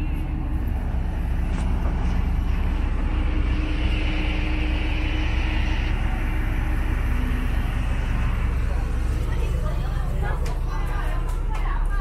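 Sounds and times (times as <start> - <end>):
faint hum: 0.0 - 12.0
vehicle engine rumble: 0.0 - 12.0.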